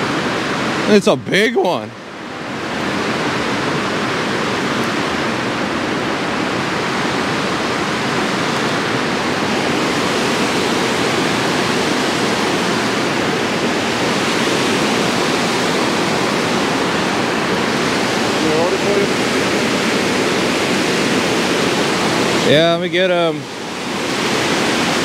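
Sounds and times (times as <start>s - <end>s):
water rushing through spillway: 0.0s - 25.0s.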